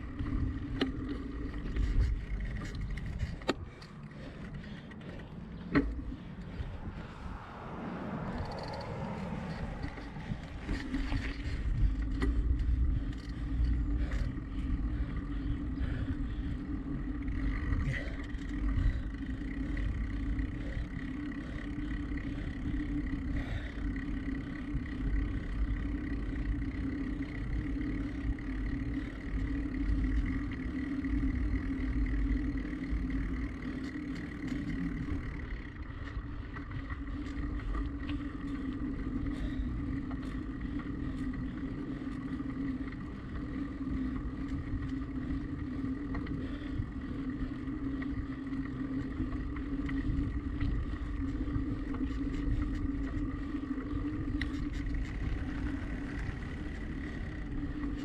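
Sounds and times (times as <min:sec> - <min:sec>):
road rumble: 0:00.0 - 0:58.0
steady hum: 0:00.0 - 0:58.0
wind: 0:00.0 - 0:58.0.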